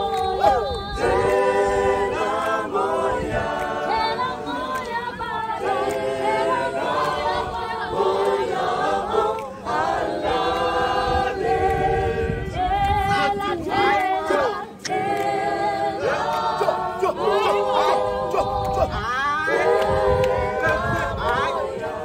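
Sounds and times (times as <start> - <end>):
group singing in harmony: 0.0 - 22.0.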